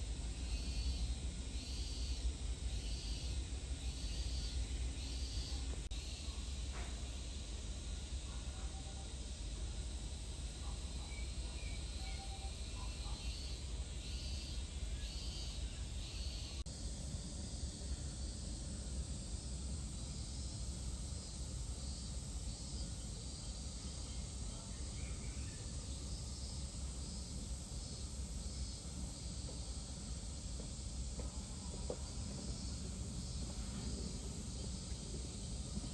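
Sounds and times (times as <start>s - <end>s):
insect call pulsing: 0.0s - 35.9s.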